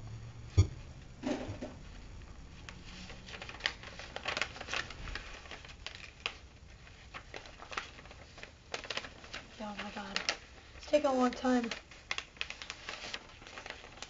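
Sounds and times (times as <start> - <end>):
paper crinkling and rustling: 2.5 - 14.0.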